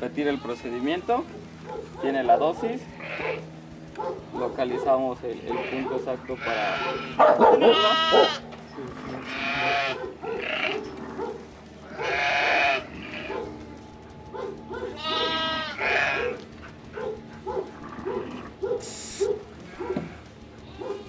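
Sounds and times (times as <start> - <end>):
lambs bleating: 0.1 - 21.0.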